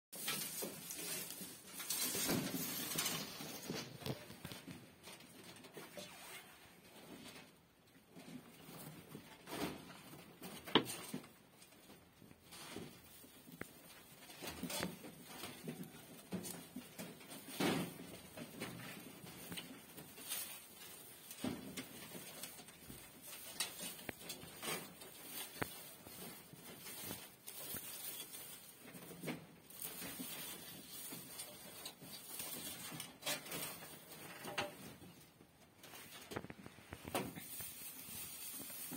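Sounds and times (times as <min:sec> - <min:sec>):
rabbit scratching through straw: 0:00.2 - 0:07.4, 0:08.2 - 0:35.2, 0:35.8 - 0:38.9.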